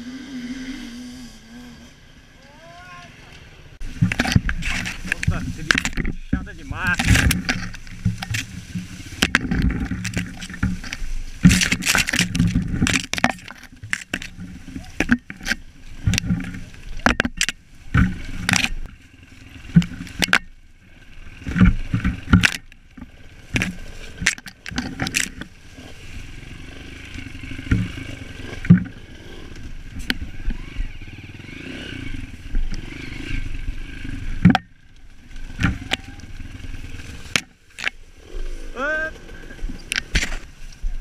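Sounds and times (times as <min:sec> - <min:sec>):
motorcycle engine at low revs: 0:00.0 - 0:02.5, 0:03.2 - 0:41.0
branches striking a bike: 0:02.4 - 0:41.0.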